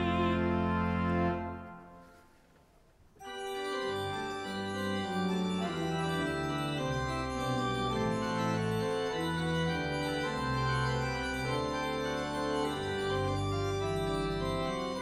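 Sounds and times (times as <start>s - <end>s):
pipe organ chords: 0.0s - 2.2s, 3.2s - 15.0s.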